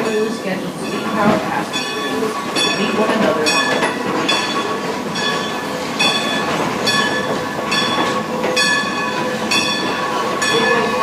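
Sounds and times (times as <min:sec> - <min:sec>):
train running on track: 0:00.0 - 0:11.0
ringing rhythmic beat: 0:00.1 - 0:11.0.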